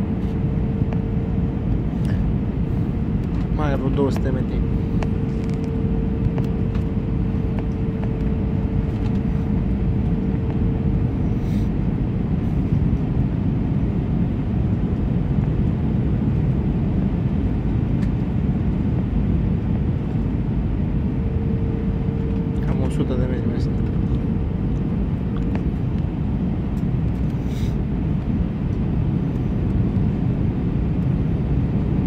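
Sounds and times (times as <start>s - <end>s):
jet engines roaring in cabin: 0.0s - 32.0s
steady hum: 0.0s - 32.0s.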